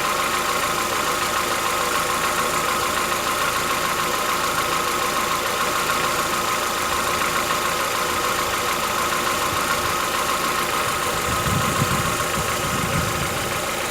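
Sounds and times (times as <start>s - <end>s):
car engine idling: 0.0s - 13.9s
engine knocking: 0.0s - 13.9s.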